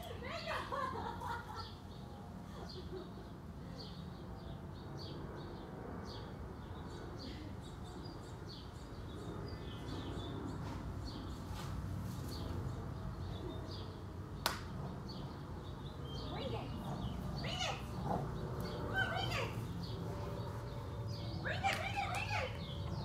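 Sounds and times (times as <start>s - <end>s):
small birds chirping: 0.0s - 23.0s
low outdoor rumble: 4.4s - 23.0s.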